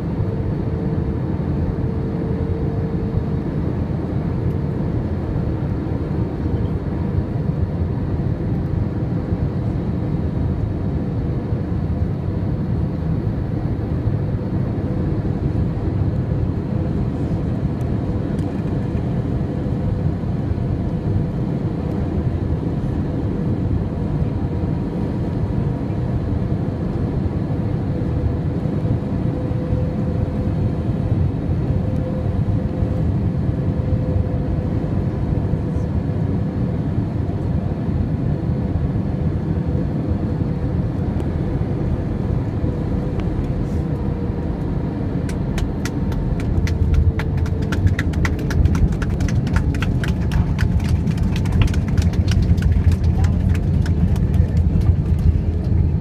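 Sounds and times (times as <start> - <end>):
constant cabin hum: 0.0 - 56.0
jet engines and airflow roar: 0.0 - 56.0.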